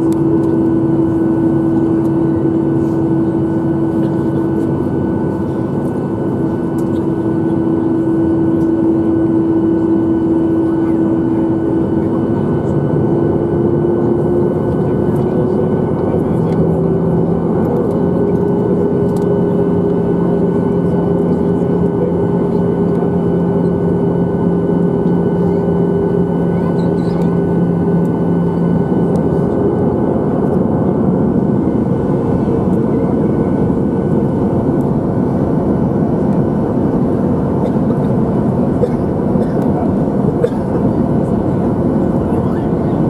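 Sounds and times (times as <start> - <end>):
aircraft noise rushing: 0.0 - 43.0.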